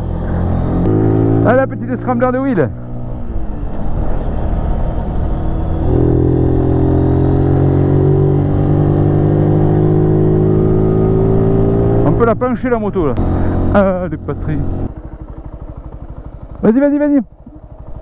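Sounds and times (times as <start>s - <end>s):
motorcycle engine under load: 0.0s - 18.0s.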